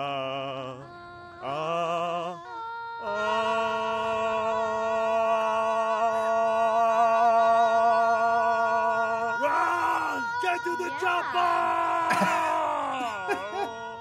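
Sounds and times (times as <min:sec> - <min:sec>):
woman singing unaccompanied: 0:00.1 - 0:14.0.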